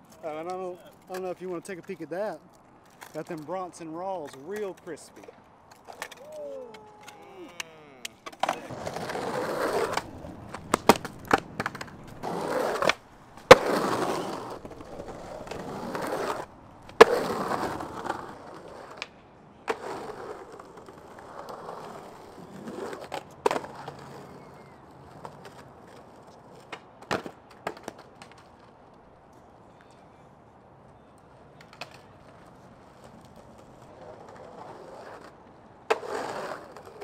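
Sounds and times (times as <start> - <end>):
skateboard wheels rolling on concrete: 0.0 - 37.0
skateboard tail clacks: 4.2 - 30.0, 31.2 - 37.0.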